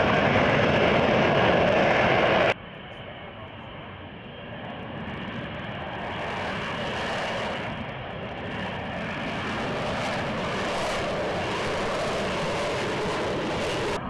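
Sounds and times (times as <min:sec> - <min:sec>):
jet engine rushing: 0:00.0 - 0:02.6, 0:04.4 - 0:14.0.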